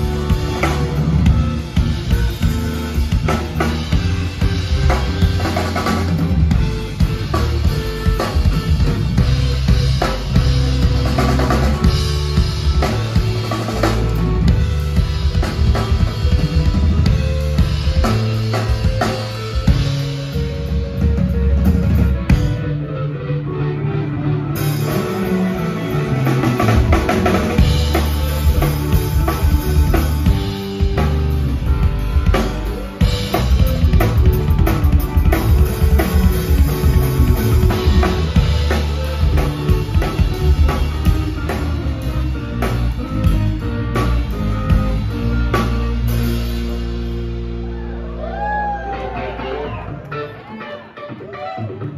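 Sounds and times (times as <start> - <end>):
descending bass run: 0.0 - 50.1
rock band playing instrumental: 0.0 - 51.9.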